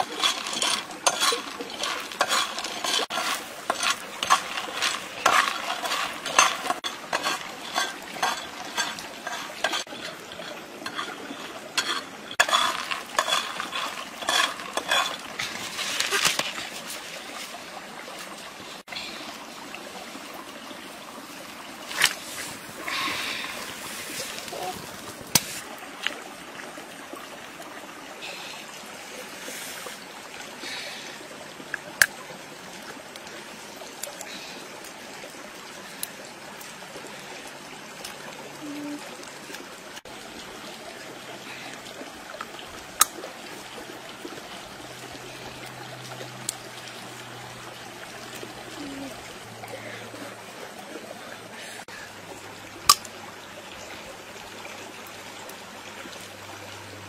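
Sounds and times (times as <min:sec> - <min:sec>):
stream trickling: 0:00.0 - 0:57.0.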